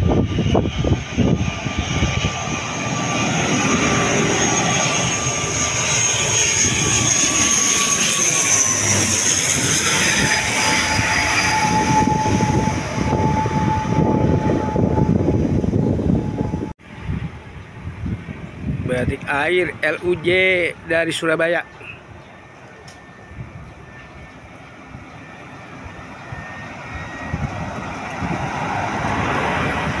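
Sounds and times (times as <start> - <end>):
turboprop airliner passing overhead: 0.0 - 30.0.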